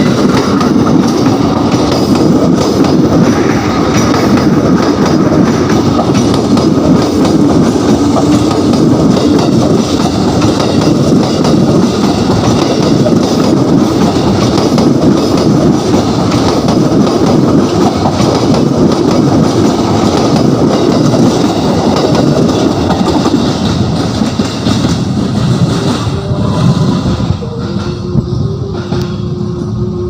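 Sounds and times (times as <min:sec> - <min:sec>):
train running past: 0:00.0 - 0:30.0.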